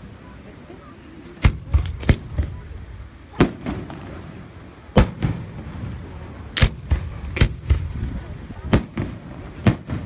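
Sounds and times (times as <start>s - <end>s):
fireworks bursting: 1.4s - 10.0s.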